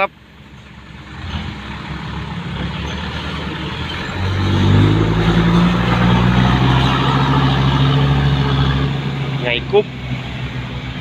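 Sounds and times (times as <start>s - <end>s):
diesel truck engine revving: 0.6s - 11.0s.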